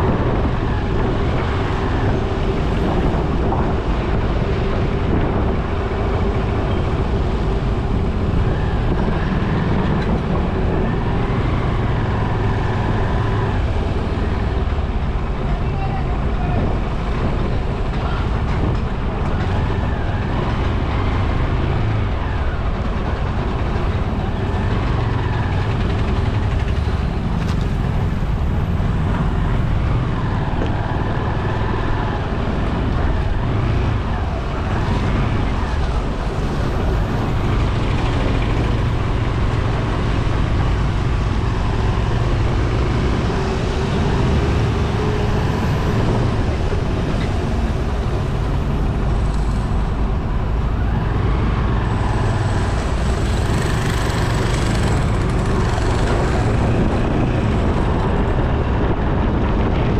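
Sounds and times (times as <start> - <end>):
road noise: 0.0 - 59.9
traffic: 0.0 - 59.9.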